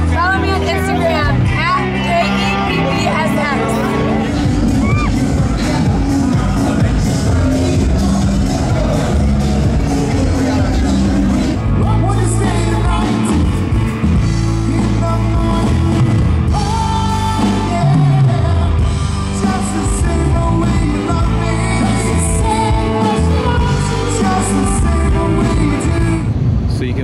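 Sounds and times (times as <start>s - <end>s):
rock band playing: 0.0s - 26.4s
person singing: 1.8s - 26.3s.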